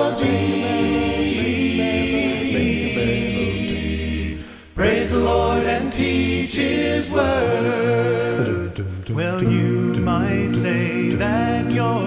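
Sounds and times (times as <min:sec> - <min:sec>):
male vocal group singing harmony: 0:00.0 - 0:12.0.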